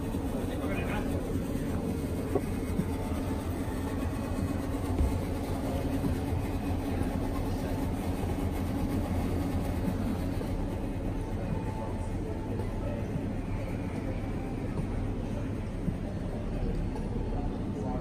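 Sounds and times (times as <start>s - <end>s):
low room rumble: 0.0s - 18.0s.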